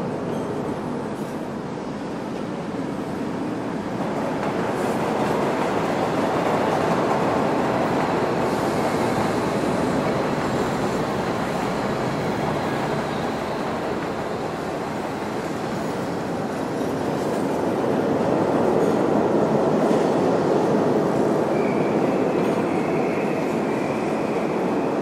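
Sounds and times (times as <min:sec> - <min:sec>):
subway train on rails: 0:00.0 - 0:25.0.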